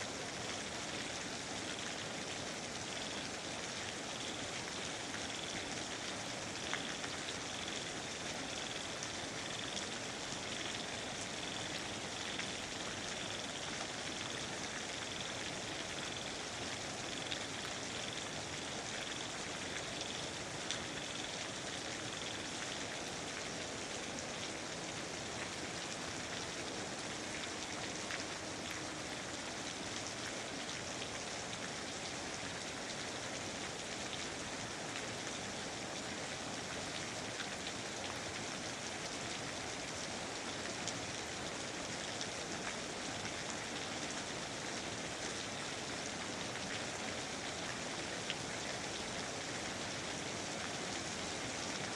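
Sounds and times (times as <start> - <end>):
raindrops pattering on leaves: 0.0 - 51.9
steady rain hiss: 0.0 - 51.9.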